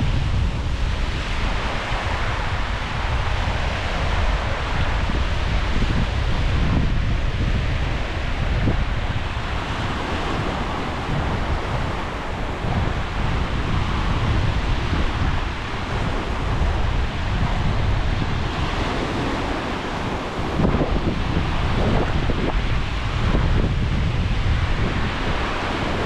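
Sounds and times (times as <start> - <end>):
sea waves washing in: 0.0 - 26.0
wind rumbling on microphone: 0.0 - 26.0.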